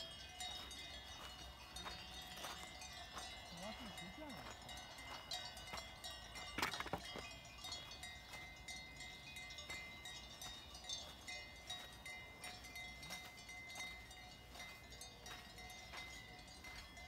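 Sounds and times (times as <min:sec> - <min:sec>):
sheep bells clinking: 0:00.0 - 0:17.0.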